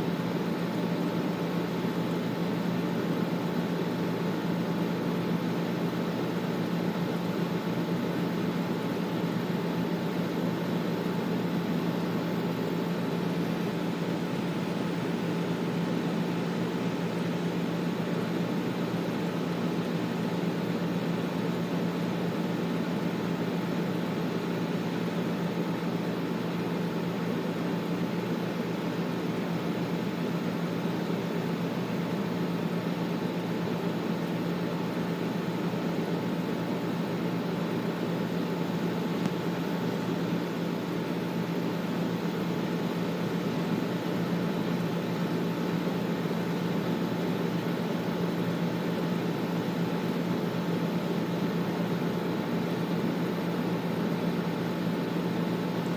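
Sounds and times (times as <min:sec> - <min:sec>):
air conditioner running: 0:00.0 - 0:55.9.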